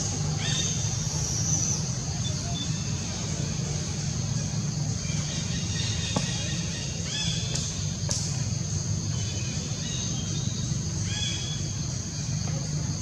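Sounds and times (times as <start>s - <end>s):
constant low rumble: 0.0s - 13.0s.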